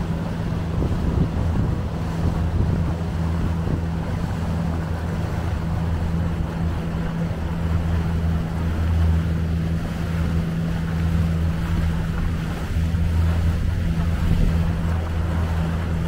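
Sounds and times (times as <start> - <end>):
motorboat engine drone: 0.0 - 16.0
water rushing around hull: 0.0 - 16.0
wind: 0.0 - 16.0.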